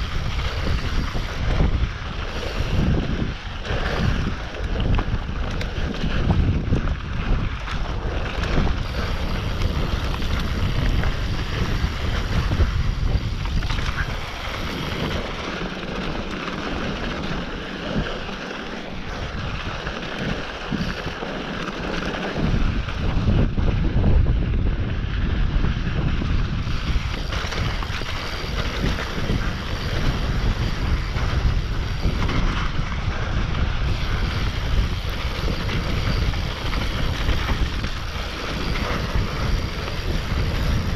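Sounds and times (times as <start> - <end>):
bike tyres rumbling and rattling: 0.0 - 40.9
wind buffeting microphone: 0.0 - 40.9.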